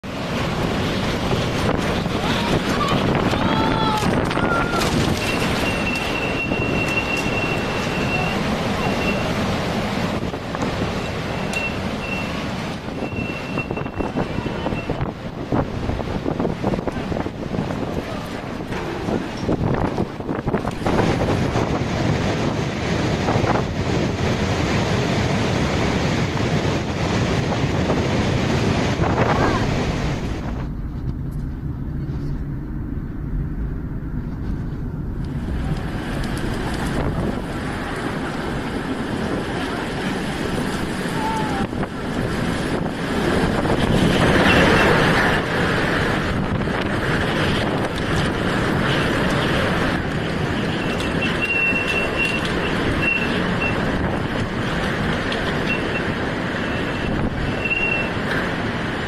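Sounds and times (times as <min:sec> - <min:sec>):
car road and engine rumble: 0:00.0 - 0:59.0
storm wind on microphone: 0:00.0 - 0:59.0.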